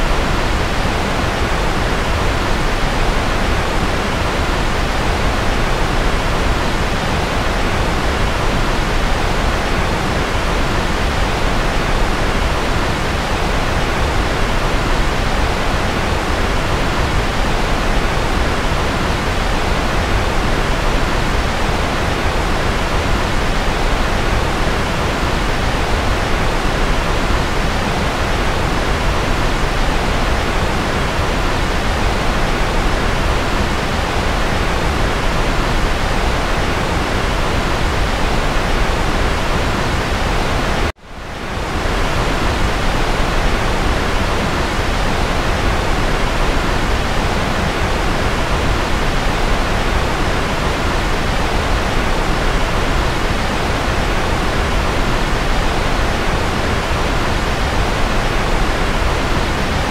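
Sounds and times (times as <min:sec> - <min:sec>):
steady white noise hiss: 0:00.0 - 0:59.9.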